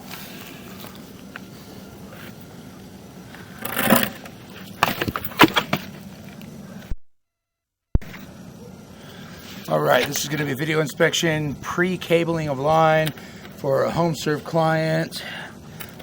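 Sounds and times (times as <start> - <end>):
steady low hum: 0.0 - 7.0, 8.0 - 16.0.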